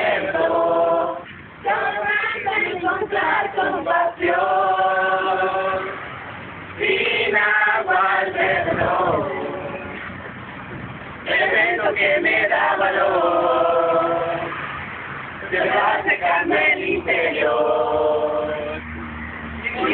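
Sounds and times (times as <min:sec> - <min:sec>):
choir singing: 0:00.0 - 0:06.0, 0:06.8 - 0:10.0, 0:11.2 - 0:14.6, 0:15.4 - 0:18.8.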